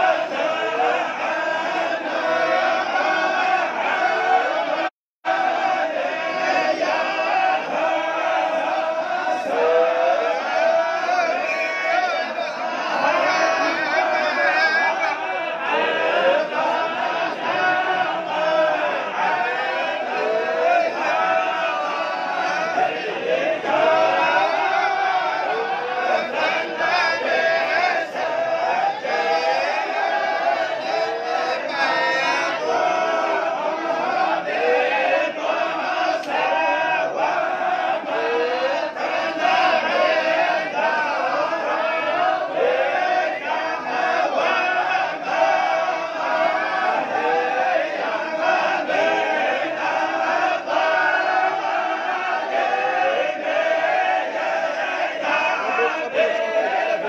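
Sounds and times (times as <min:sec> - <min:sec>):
men chanting recitation in unison: 0:00.0 - 0:57.0.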